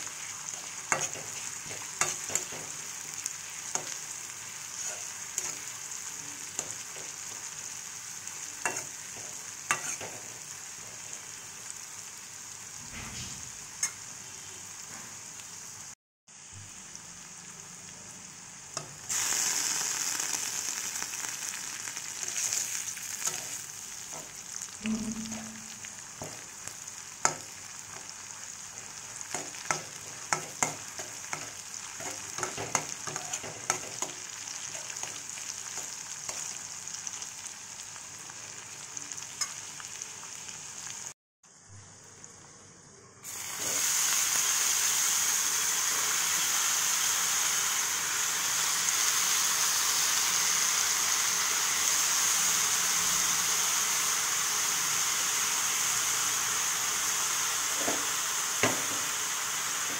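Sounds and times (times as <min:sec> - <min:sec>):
food sizzling in oil: 0:00.0 - 0:42.3, 0:43.2 - 0:59.9
mushrooms frying in pan: 0:00.0 - 0:42.3, 0:43.2 - 0:59.9.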